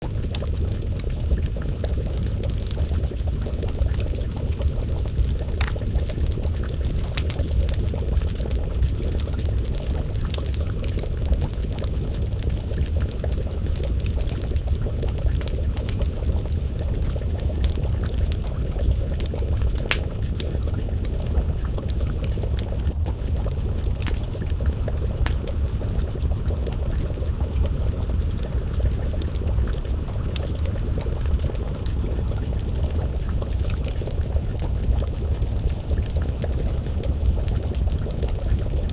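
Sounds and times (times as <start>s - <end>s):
pot of stew bubbling: 0.0s - 38.9s
wood fire crackling: 0.0s - 38.9s.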